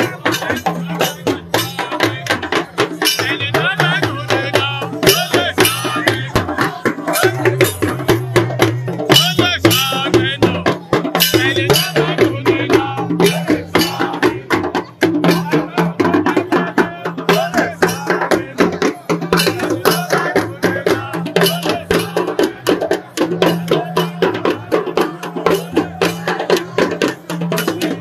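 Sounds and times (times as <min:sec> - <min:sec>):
fast hand drumming: 0:00.0 - 0:28.0
group singing: 0:00.0 - 0:28.0.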